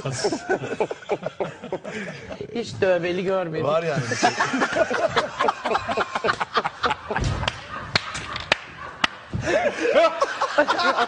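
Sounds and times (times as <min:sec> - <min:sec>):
people laughing: 0:00.0 - 0:02.5, 0:04.0 - 0:11.0.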